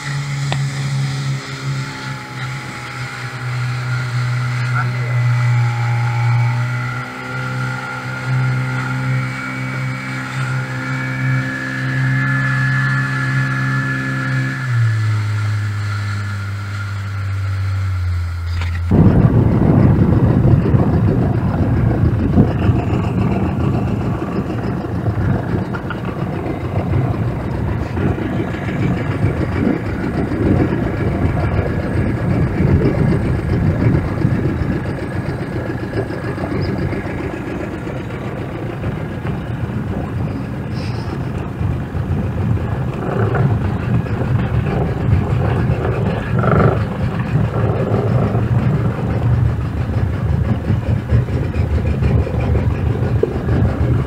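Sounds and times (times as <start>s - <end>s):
boat engine humming: 0.0s - 54.0s
water and wind rushing: 0.0s - 54.0s.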